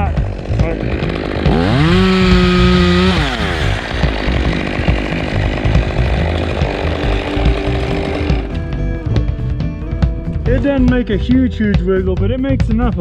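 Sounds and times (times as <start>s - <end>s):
chainsaw engine running: 0.0s - 12.7s.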